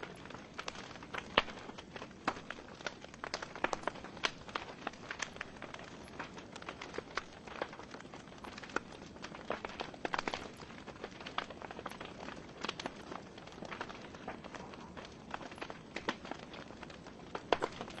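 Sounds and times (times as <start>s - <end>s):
burning logs crackling and popping: 0.0s - 18.0s
flames hissing: 0.0s - 18.0s.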